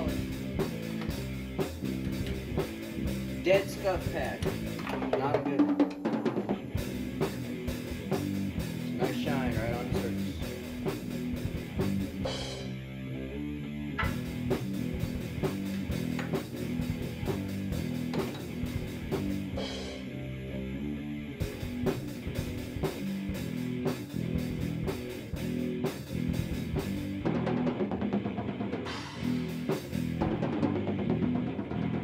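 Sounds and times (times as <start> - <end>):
rock music with guitar and drums: 0.0 - 32.0.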